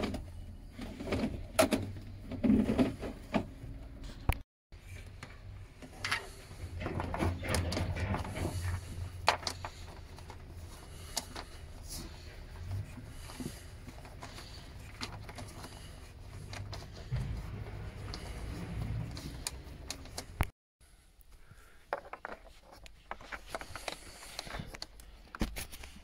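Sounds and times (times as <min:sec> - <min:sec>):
cable rustling and scraping: 0:00.0 - 0:20.5, 0:21.9 - 0:26.0.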